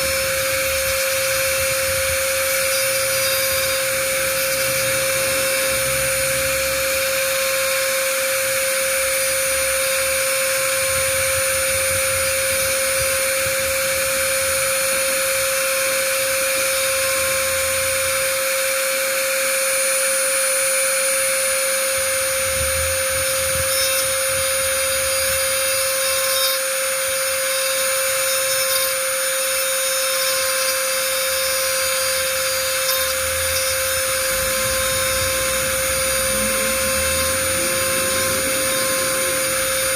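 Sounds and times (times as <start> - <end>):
electric motor humming: 0.0 - 39.9.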